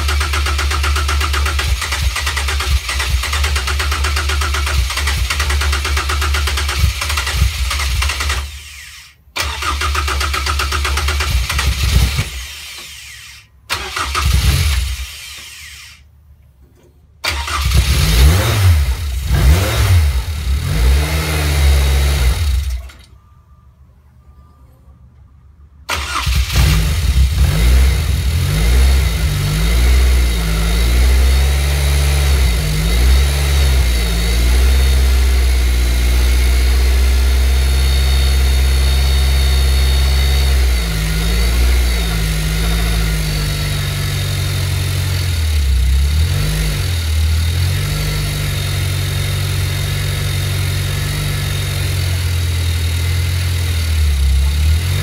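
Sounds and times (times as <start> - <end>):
car engine starting and revving: 0.0 - 16.0, 17.2 - 23.1, 25.9 - 55.0.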